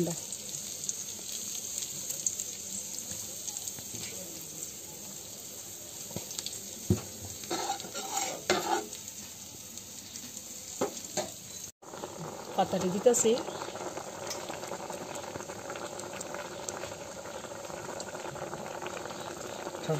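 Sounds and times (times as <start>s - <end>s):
cooking pot hissing: 0.0s - 19.9s.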